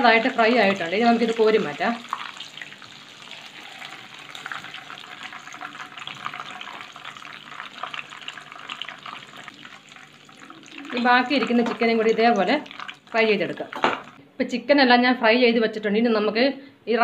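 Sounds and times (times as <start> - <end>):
chicken sizzling in oil: 0.0 - 14.2.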